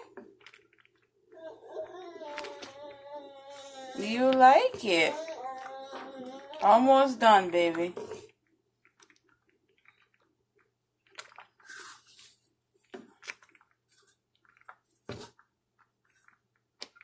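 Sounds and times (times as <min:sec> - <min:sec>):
porridge squelching while stirred: 0:00.0 - 0:17.0.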